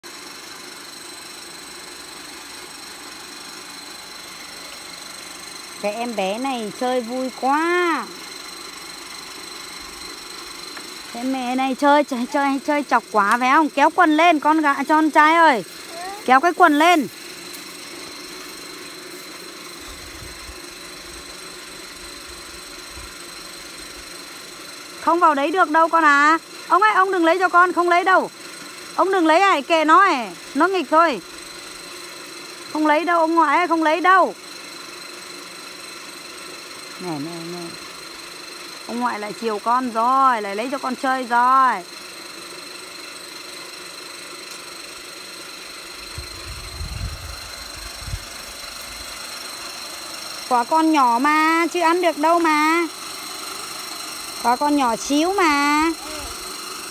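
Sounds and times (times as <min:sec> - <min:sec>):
high steady whine: 0:00.0 - 0:42.3, 0:44.5 - 0:56.9
low mechanical hum: 0:00.0 - 0:56.9.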